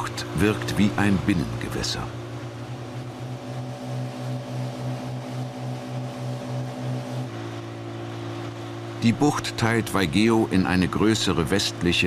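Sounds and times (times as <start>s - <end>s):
boat engine throbbing hum: 0.0s - 12.0s.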